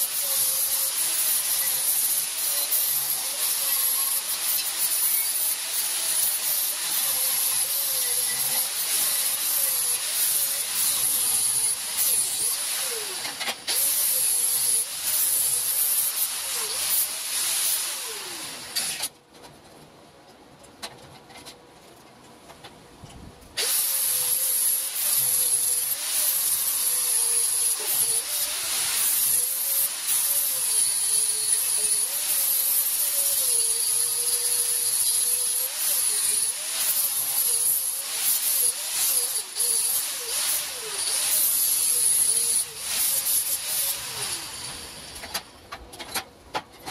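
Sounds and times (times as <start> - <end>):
angle grinder grinding steel: 0.0 - 19.1, 23.6 - 45.4.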